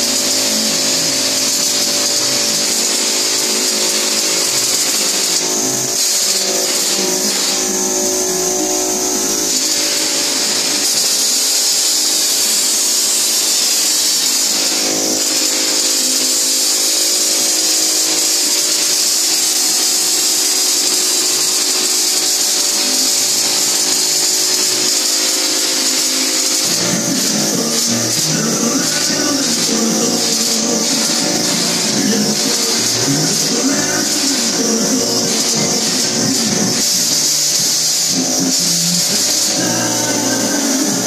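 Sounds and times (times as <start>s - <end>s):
compressed air hissing: 0.0s - 41.0s
machine hum: 0.0s - 41.0s.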